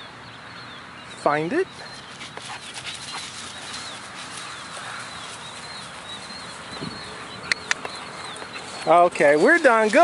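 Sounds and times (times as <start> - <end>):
small bird chirping: 0.0 - 10.0
steady outdoor hiss: 0.0 - 10.0.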